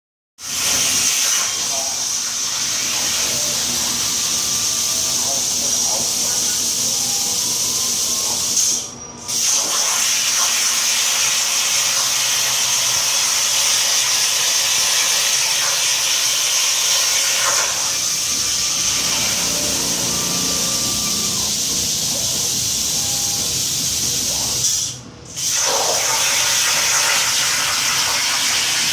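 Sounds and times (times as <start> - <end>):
plasma cutter hissing: 0.5 - 28.9.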